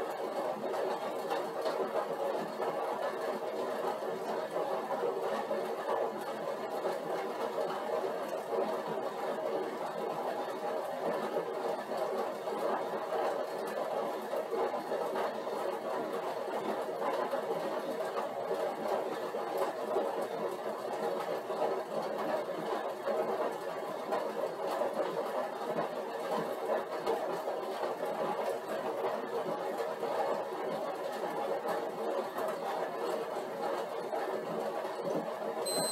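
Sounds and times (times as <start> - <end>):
exercise bike whirring: 0.0 - 35.9.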